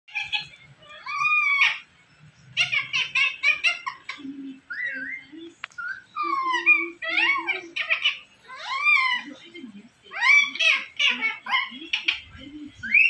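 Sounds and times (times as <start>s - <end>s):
parrot chattering: 0.1s - 1.9s, 2.5s - 9.4s, 10.1s - 13.0s.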